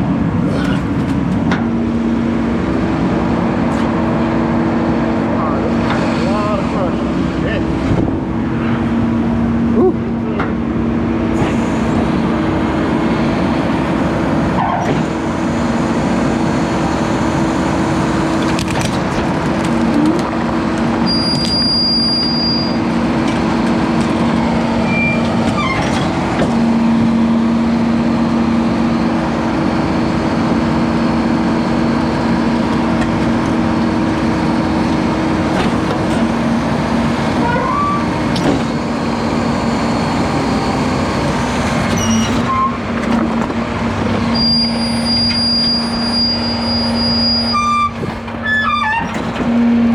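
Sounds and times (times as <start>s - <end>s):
garbage truck compactor running: 0.0s - 49.9s.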